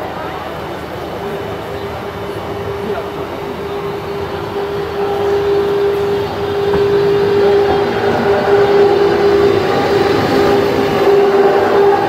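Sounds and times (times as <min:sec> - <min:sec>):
electric railcar hum: 0:00.0 - 0:12.0
wheels rumbling: 0:00.0 - 0:12.0.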